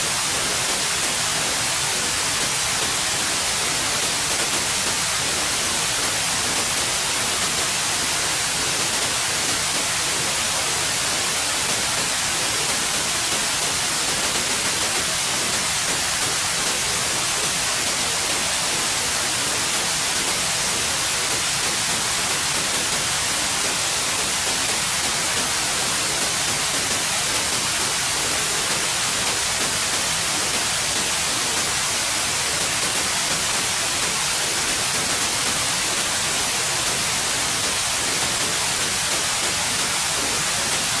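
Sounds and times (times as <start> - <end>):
white noise hiss: 0.0 - 41.0.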